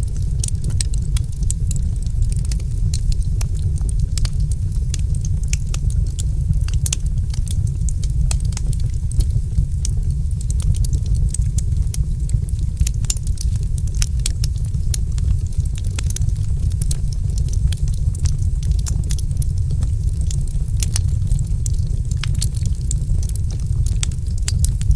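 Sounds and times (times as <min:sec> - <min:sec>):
low rumble of burning: 0:00.0 - 0:24.9
wood fire crackling and popping: 0:00.0 - 0:24.9.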